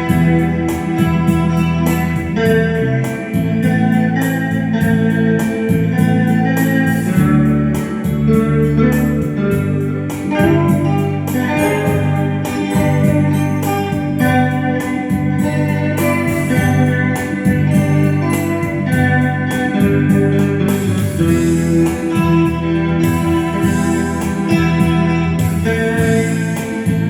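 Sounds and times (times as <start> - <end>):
romantic instrumental keyboard music: 0.0 - 27.0.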